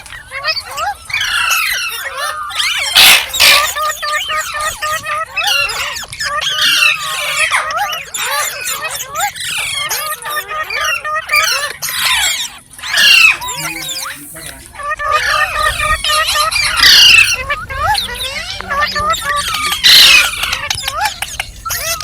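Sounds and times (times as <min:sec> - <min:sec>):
parrot screeching: 0:00.0 - 0:22.0
parrot chattering: 0:00.1 - 0:22.0.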